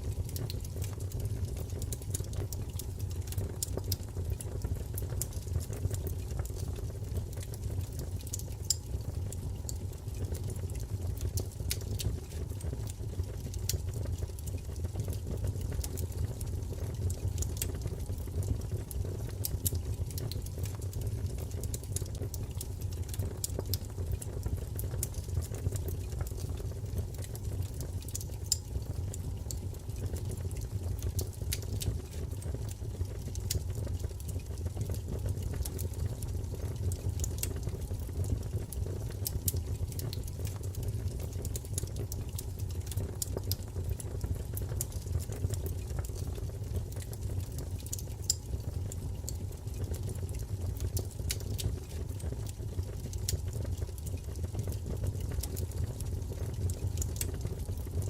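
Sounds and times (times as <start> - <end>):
fire crackles and pops: 0.0 - 58.0
wood fire burning: 0.0 - 58.0.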